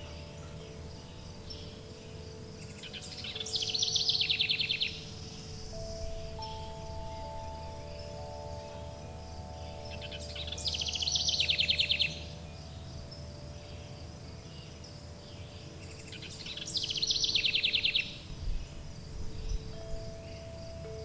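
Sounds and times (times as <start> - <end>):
faint high insect buzz: 0.0 - 21.0
songbird singing with trill: 0.0 - 21.0
wind chimes ringing: 0.0 - 21.0.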